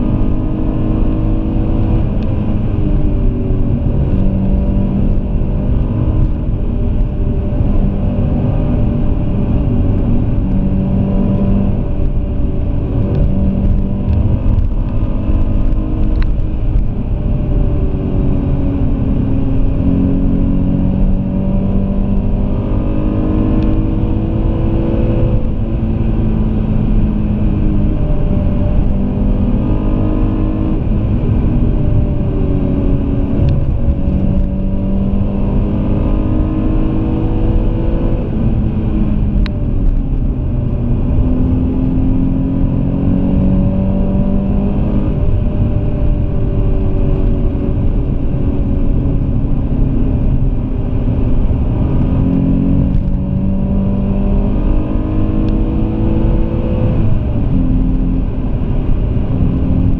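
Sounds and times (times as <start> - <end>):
car engine accelerating: 0.0 - 59.9
road noise rumble: 0.0 - 59.9.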